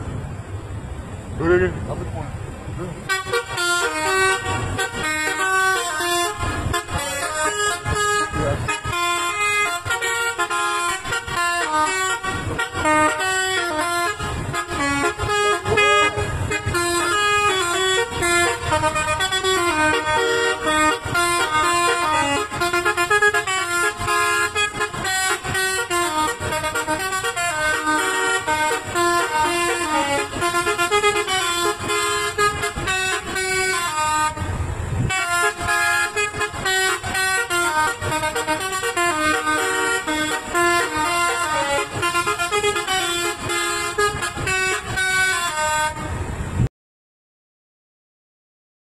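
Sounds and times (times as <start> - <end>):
bus multi-tone air horn melody: 3.0 - 46.6.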